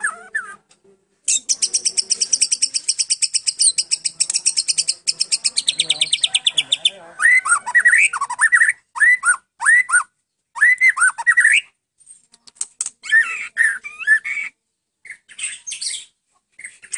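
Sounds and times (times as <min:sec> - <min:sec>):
bird singing: 0:01.3 - 0:11.8, 0:13.0 - 0:16.9.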